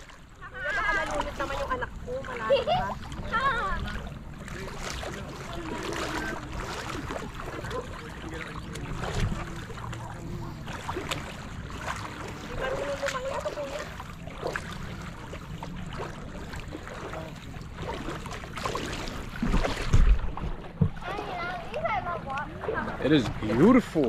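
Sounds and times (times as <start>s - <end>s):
faint distant voices: 0.0s - 19.4s
sea water lapping: 0.0s - 24.0s.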